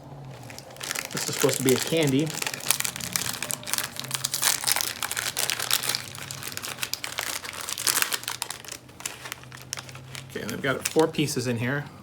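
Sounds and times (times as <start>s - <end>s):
snack packet crinkling: 0.2s - 11.3s.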